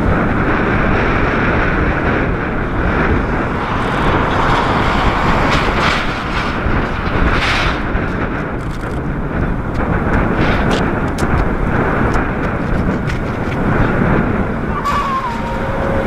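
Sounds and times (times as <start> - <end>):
jet engines roaring: 0.0 - 16.0
wind on microphone: 0.0 - 16.0.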